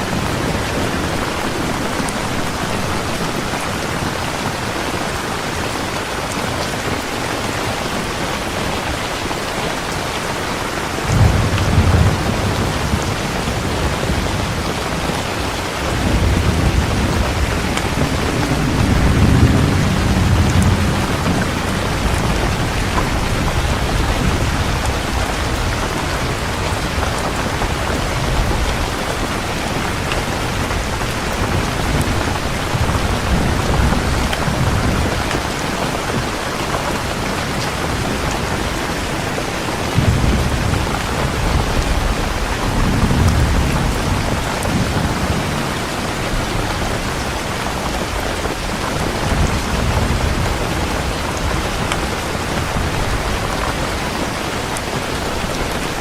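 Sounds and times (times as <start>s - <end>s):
heavy rain falling: 0.0s - 56.0s
thunder rumbling: 10.6s - 56.0s.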